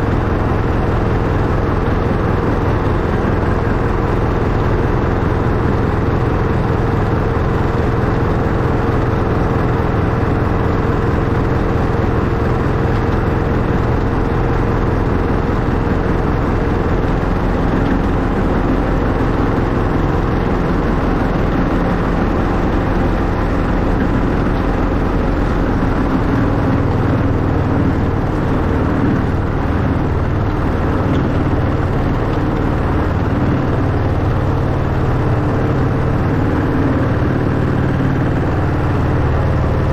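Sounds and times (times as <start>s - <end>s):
miniature locomotive running: 0.0s - 39.9s.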